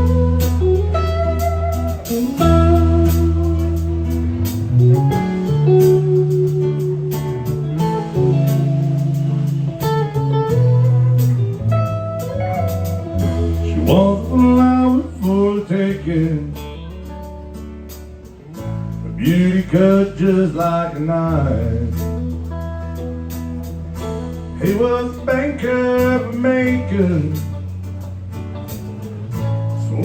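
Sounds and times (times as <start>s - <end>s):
country band playing: 0.0s - 30.0s
lead guitar lines: 0.0s - 30.0s.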